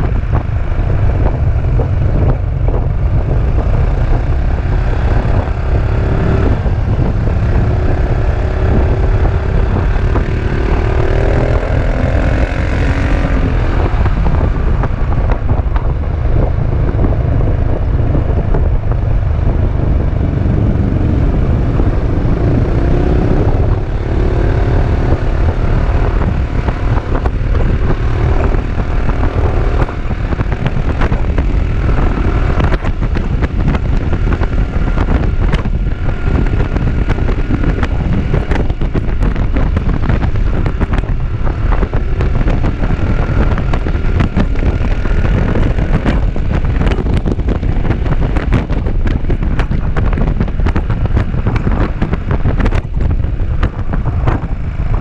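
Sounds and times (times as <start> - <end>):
motorcycles riding: 0.0 - 55.0
wind rumbling on microphone: 0.0 - 55.0.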